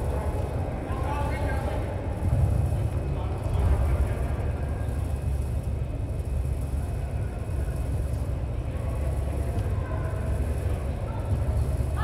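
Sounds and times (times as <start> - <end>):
distant voices of players: 0.0 - 12.0
low rumble of sports hall: 0.0 - 12.0.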